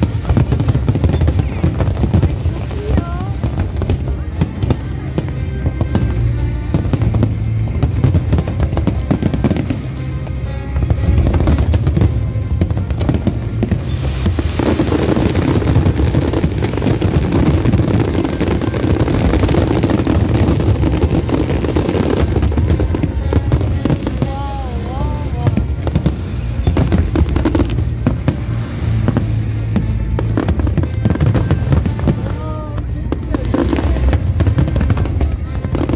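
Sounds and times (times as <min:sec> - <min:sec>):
fireworks bangs and crackles: 0:00.0 - 0:35.9
low rumble: 0:00.0 - 0:35.9
music: 0:00.0 - 0:35.9.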